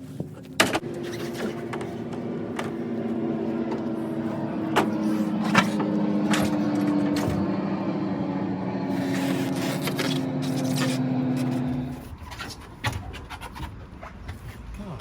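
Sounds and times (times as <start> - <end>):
tires and rims knocking and scraping: 0.0 - 8.1, 8.8 - 15.0
vehicle engine humming: 0.0 - 15.0.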